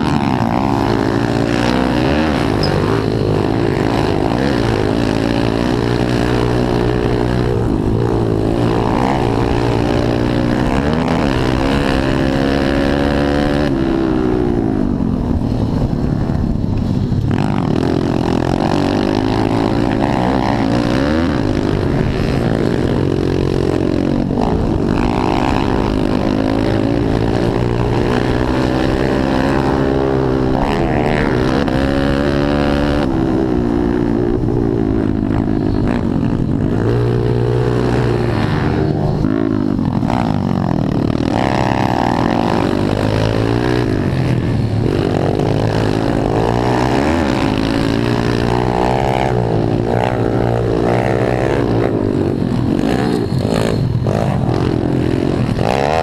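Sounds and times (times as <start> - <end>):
pit bike engine revving: 0.0 - 15.9, 17.2 - 56.0.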